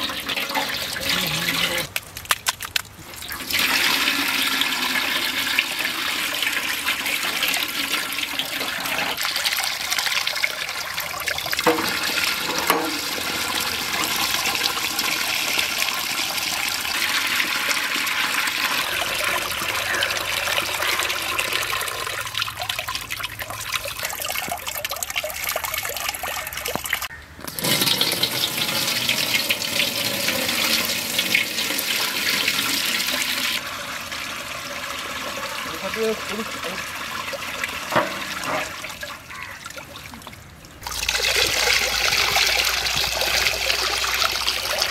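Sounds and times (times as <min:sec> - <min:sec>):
water pouring and splashing: 0:00.0 - 0:44.9.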